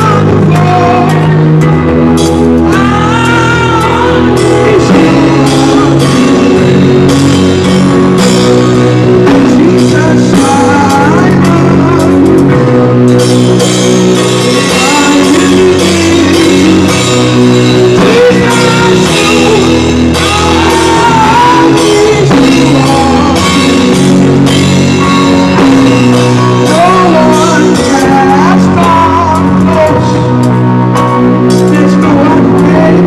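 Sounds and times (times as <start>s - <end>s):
gospel choir with band: 0.0s - 33.0s.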